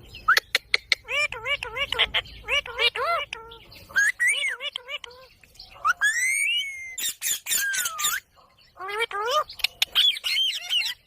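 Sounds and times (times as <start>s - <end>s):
parakeet chattering: 0.1s - 11.0s.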